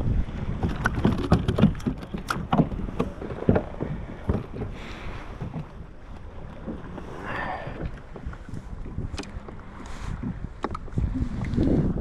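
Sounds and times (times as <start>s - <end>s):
water lapping against hull: 0.0s - 12.0s
wind on microphone: 0.0s - 12.0s.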